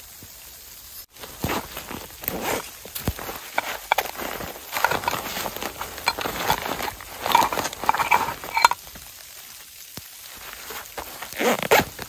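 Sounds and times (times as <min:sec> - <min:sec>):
fabric pouch rustling: 0:01.1 - 0:09.1, 0:10.2 - 0:12.0.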